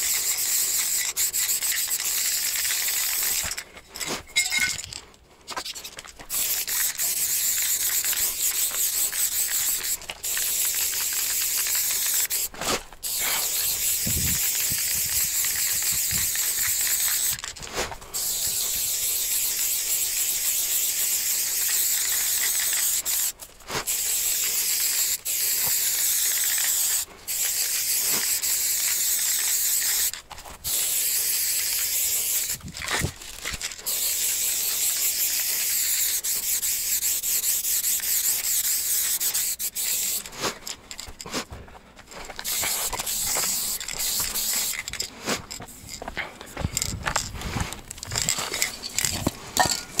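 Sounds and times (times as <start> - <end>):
spray paint can hissing: 0.0 - 3.6, 5.6 - 41.1, 42.4 - 45.9.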